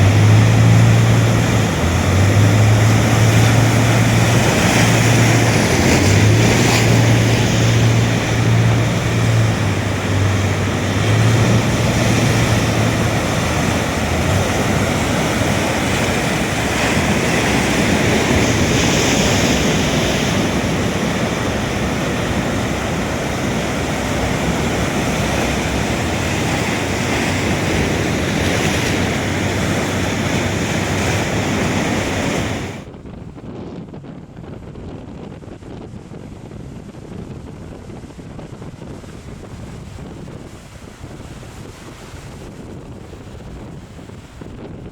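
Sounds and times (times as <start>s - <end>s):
ocean surf: 0.0s - 33.0s, 38.8s - 44.9s
boat engine drone: 0.0s - 44.9s
wind noise on microphone: 0.0s - 44.9s.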